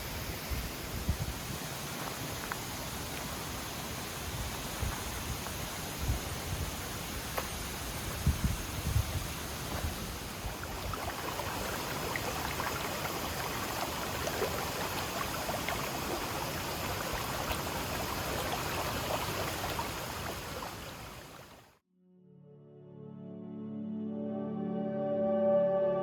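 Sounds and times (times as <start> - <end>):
water rushing and splashing: 0.0 - 21.8.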